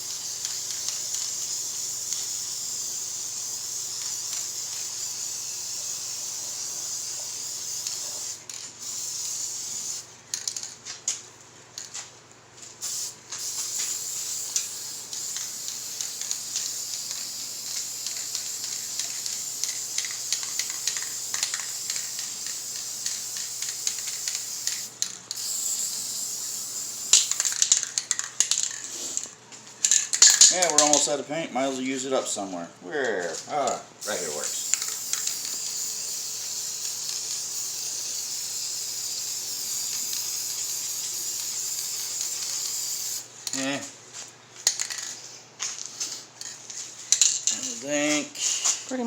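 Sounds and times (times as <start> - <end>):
spray paint can hissing: 0.0 - 10.8, 12.8 - 31.0, 34.0 - 43.7, 44.6 - 45.4, 46.0 - 47.8
spray can ball rattling: 0.0 - 11.2, 12.8 - 31.1, 34.0 - 43.7, 44.6 - 47.8.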